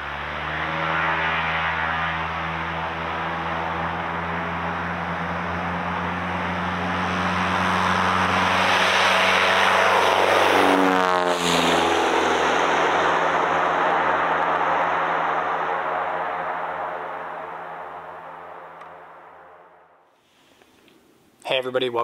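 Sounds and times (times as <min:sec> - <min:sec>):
propeller plane engine passing: 0:00.0 - 0:20.0.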